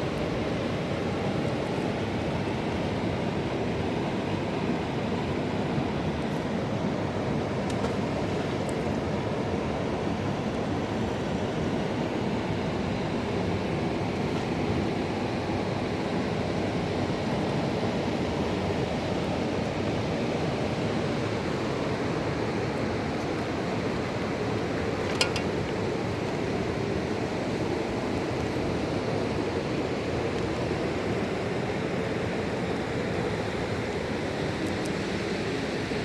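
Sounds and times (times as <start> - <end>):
river rushing: 0.0 - 36.0.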